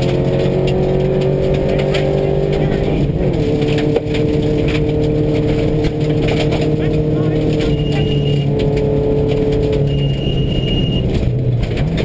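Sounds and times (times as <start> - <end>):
gravel striking car: 0.0 - 12.0
rally car engine pulling hard: 0.0 - 12.0.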